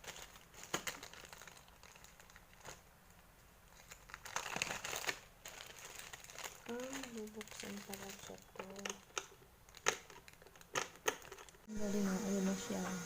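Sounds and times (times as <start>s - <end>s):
cloth crinkling and rustling: 0.0s - 11.7s.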